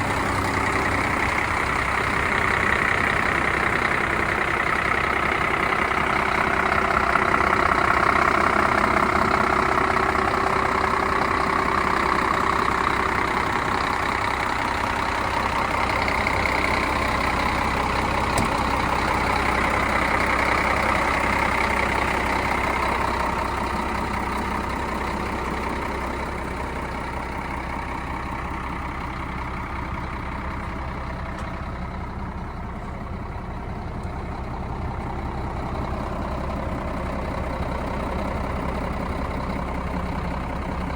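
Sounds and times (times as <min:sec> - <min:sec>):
diesel truck idling: 0:00.0 - 0:40.9.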